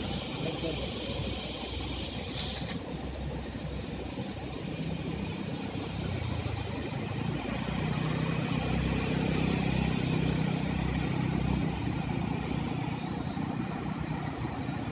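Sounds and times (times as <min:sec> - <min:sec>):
vehicle engine running: 0:00.0 - 0:14.9.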